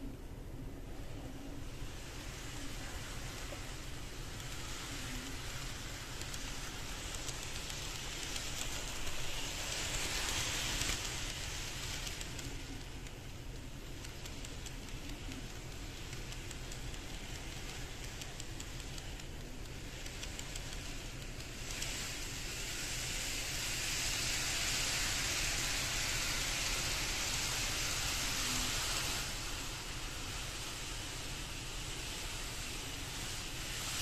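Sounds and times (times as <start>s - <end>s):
model train wheels clicking: 0.0s - 34.0s
steady hiss: 0.0s - 34.0s.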